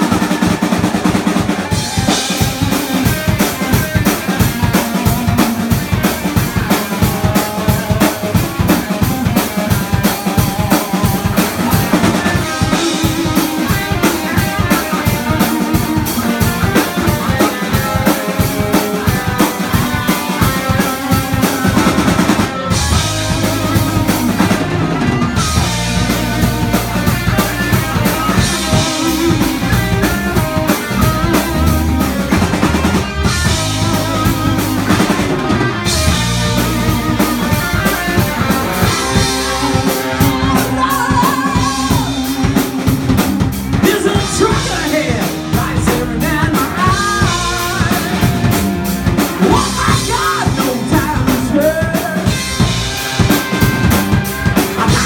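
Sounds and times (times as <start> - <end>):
bass guitar: 0.0 - 55.0
drum kit beat: 0.0 - 55.0
electric guitars: 0.0 - 55.0.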